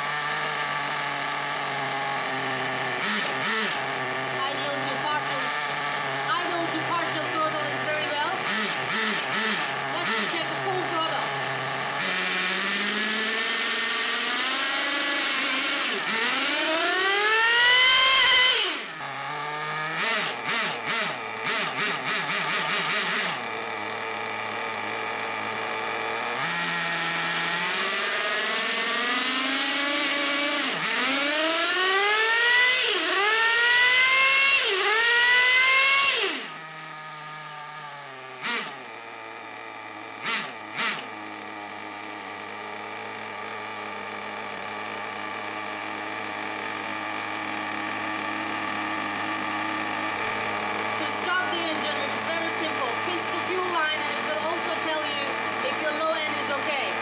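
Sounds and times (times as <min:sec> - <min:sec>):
nitro engine revving: 0:00.0 - 0:57.0.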